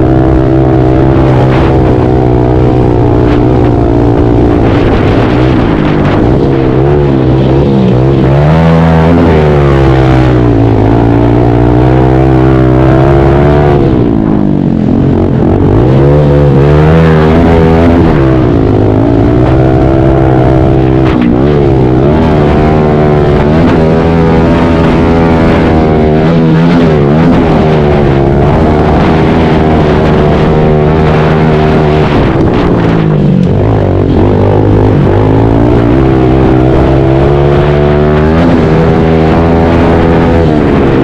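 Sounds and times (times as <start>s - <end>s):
pit bike engine revving: 0.0s - 41.0s.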